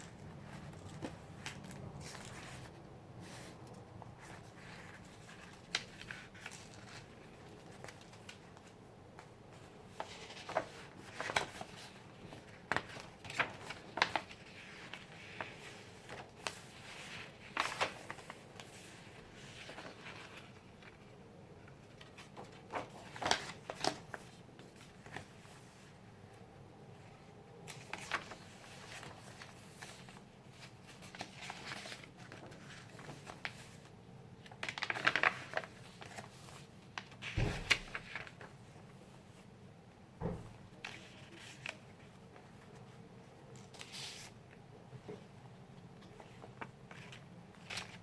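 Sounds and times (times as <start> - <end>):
paper pages rustling: 0.0 - 26.0, 27.6 - 38.9, 40.7 - 45.3, 46.0 - 48.0.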